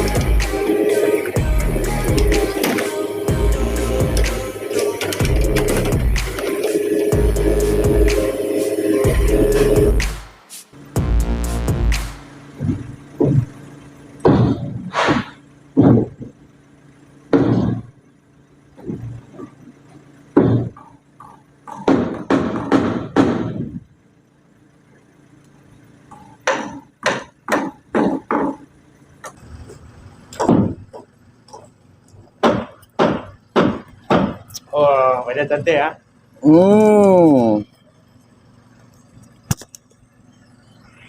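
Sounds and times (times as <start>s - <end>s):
faint engine hum: 0.0s - 41.0s.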